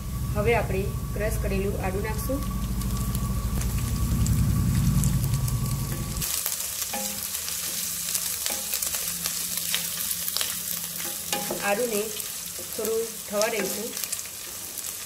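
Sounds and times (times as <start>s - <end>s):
low hum: 0.0s - 14.0s
garlic sizzling in oil: 0.0s - 15.0s.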